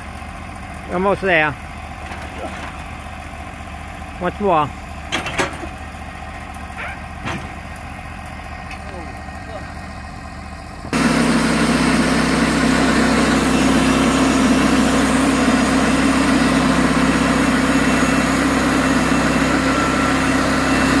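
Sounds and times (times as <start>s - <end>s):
bandsaw mill sawing log: 0.0s - 10.0s, 10.9s - 21.0s.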